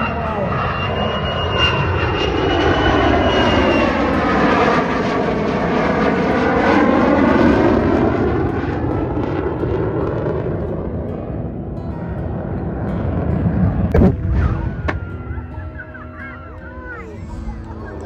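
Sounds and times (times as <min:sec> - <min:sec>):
aircraft engine flypast: 0:00.0 - 0:18.0.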